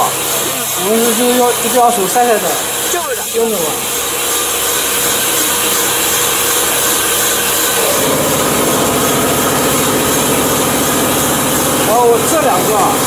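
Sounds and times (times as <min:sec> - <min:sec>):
knitting machine whirring: 0:00.0 - 0:13.0
rapid even rattle: 0:00.0 - 0:13.0.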